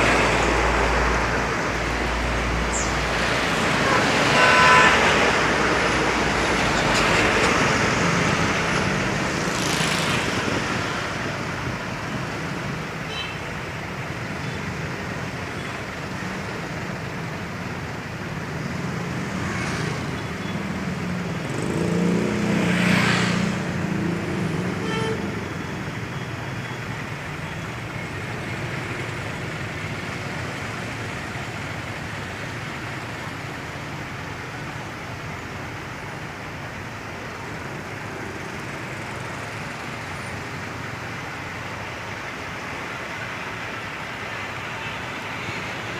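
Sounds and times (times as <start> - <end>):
trucks driving past: 0.0 - 13.0, 13.8 - 45.9
road noise: 0.0 - 45.9.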